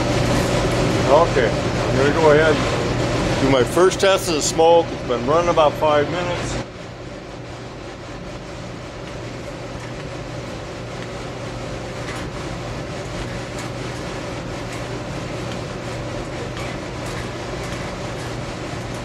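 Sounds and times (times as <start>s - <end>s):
oil burner running: 0.0s - 19.0s.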